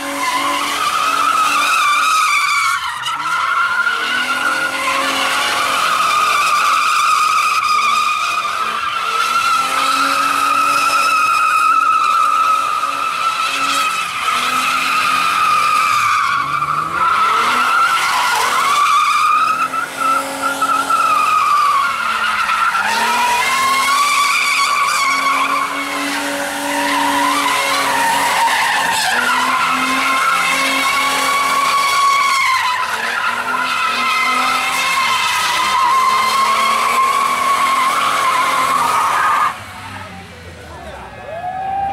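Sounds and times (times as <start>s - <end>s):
tyres squealing: 0.0s - 40.0s
car engine at high revs: 0.0s - 41.0s.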